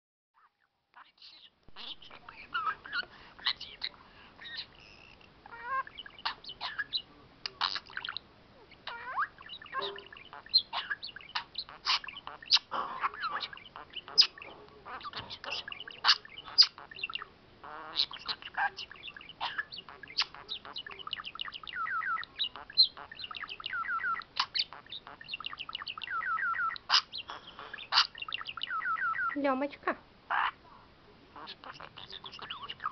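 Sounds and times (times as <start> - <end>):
budgerigar warbling: 1.2 - 29.5, 30.3 - 30.6, 31.4 - 32.9.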